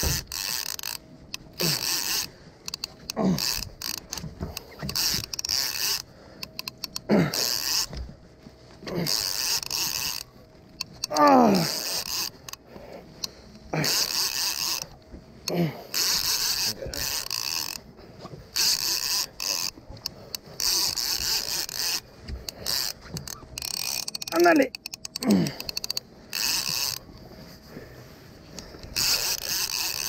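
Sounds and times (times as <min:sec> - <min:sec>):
fishing reel whirring: 0:00.0 - 0:08.1, 0:08.8 - 0:30.0.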